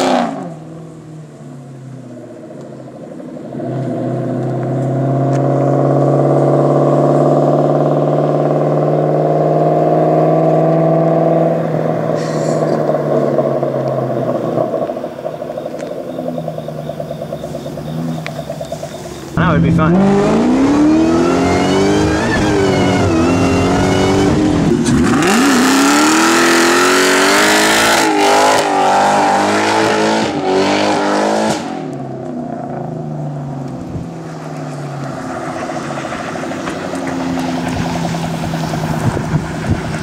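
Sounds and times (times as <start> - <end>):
car engine revving: 0.0 - 40.0
tires spinning in burnout: 3.3 - 40.0.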